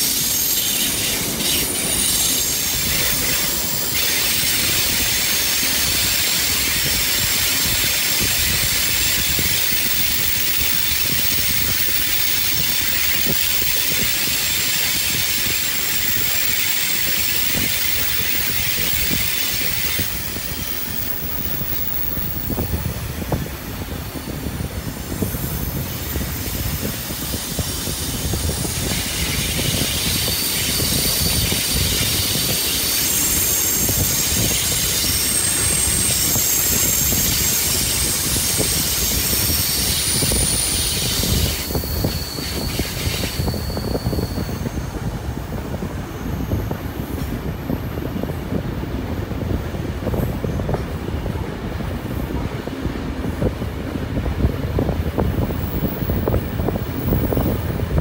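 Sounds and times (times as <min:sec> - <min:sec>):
train wheels squealing: 0:00.0 - 0:51.4
train wheels rumbling on rails: 0:00.0 - 0:58.0.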